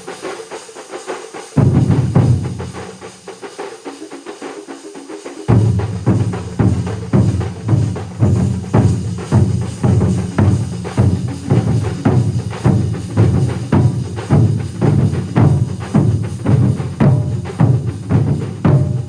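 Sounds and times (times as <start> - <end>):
drum ensemble playing: 0.0 - 19.0.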